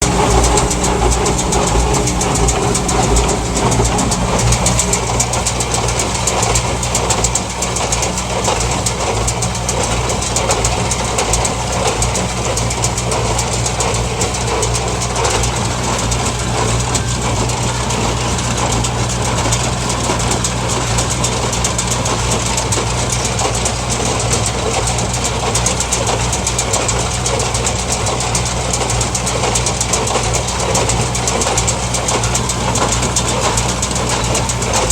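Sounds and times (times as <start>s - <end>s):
baler mechanical clatter: 0.0s - 34.9s
tractor engine running: 0.0s - 34.9s.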